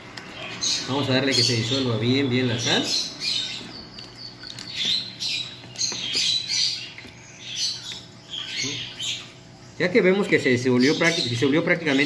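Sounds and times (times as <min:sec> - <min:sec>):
birds squawking and chirping: 0:00.0 - 0:12.0.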